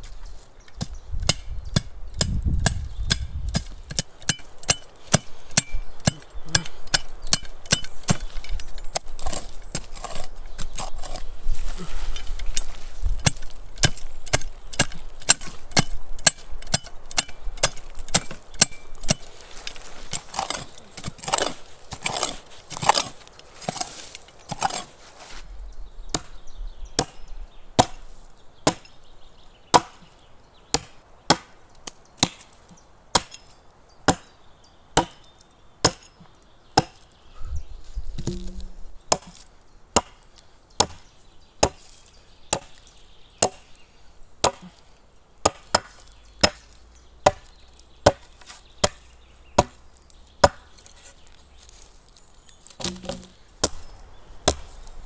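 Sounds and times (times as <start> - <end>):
wood chopping strokes: 0.0 - 25.4, 27.8 - 29.0, 29.7 - 33.5, 35.0 - 37.1, 38.0 - 43.8, 44.4 - 55.0.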